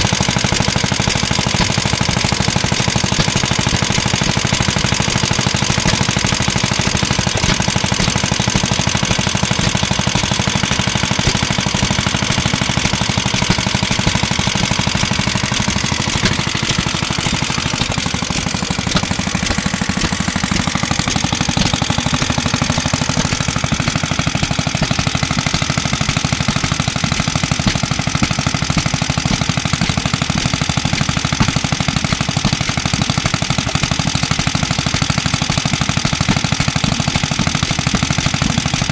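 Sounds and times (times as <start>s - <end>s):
air-cooled engine running: 0.0s - 38.9s.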